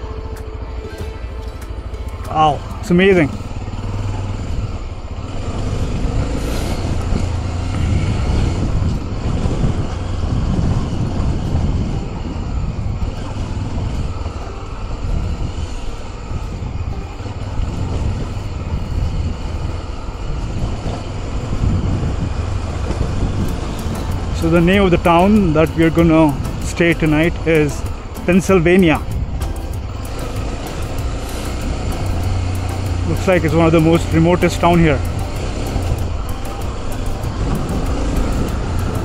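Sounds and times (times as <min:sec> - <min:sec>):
motorcycle engine running: 0:00.0 - 0:39.0
wind noise: 0:00.0 - 0:39.0.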